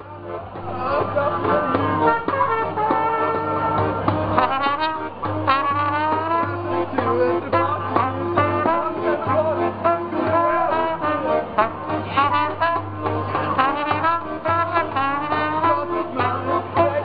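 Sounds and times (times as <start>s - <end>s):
repeated low bass notes: 0.0s - 17.0s
trombone and trumpet melody: 0.0s - 17.0s.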